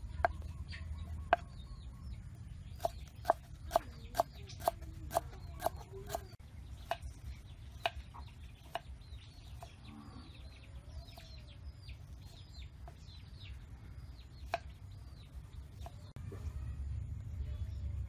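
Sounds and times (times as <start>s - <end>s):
chickens clucking and cheeping: 0.0s - 17.0s.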